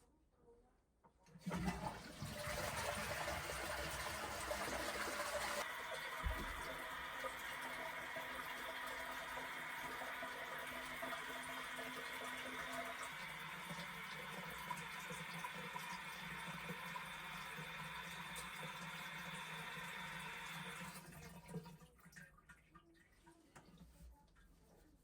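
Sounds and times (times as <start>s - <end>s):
water rushing into toilet tank: 1.4s - 22.3s.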